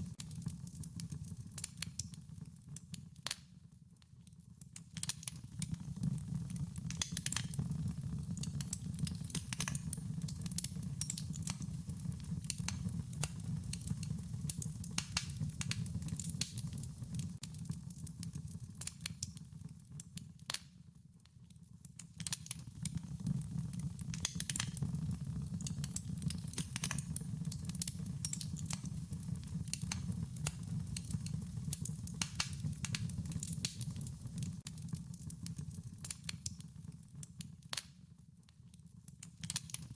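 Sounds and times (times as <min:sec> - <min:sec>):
low steady fire rumble: 0:00.0 - 0:39.9
wood fire crackling and popping: 0:00.0 - 0:39.9.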